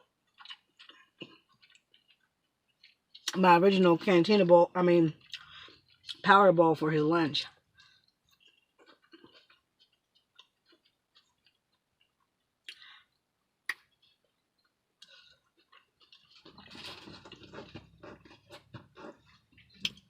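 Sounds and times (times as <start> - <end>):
person chewing: 0.0 - 3.4, 5.2 - 6.2, 7.5 - 20.0.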